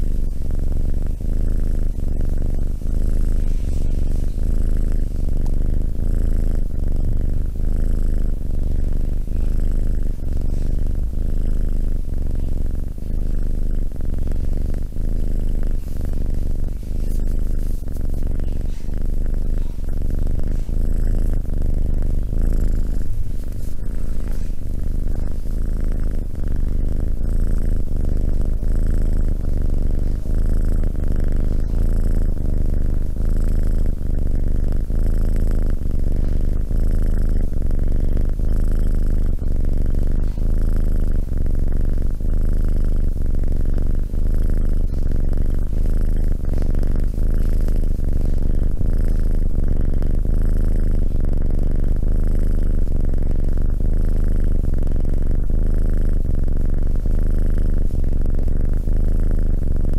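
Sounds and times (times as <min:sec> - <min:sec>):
kitten purring: 0:00.0 - 0:59.9.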